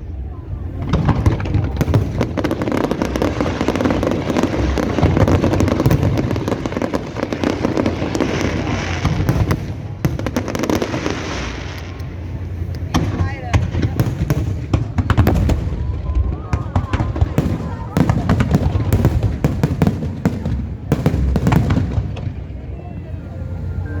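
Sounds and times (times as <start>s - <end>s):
fireworks crackling and popping: 0.7s - 22.7s.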